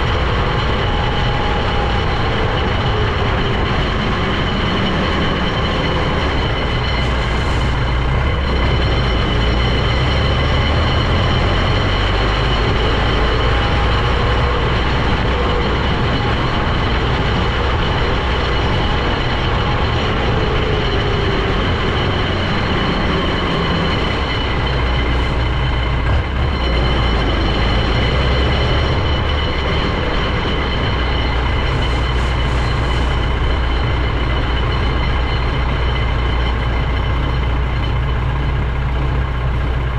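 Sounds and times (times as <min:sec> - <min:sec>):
heavy vehicle engine rumble: 0:00.0 - 0:39.9
high-pitched drivetrain whine: 0:00.0 - 0:39.9.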